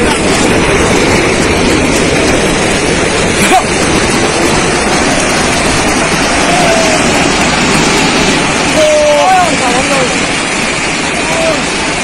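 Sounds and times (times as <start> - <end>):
landslide rushing rumble: 0.0 - 12.0
water surging: 0.0 - 12.0.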